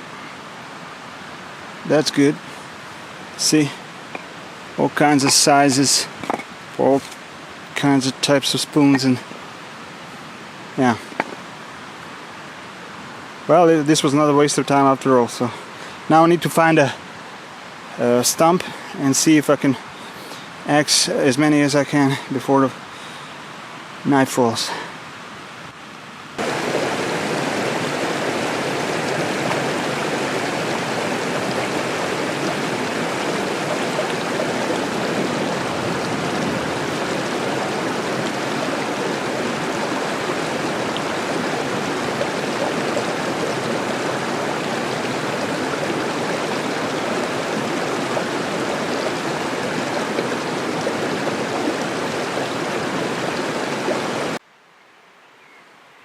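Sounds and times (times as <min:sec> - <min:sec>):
stream water rushing: 0:00.0 - 0:54.4.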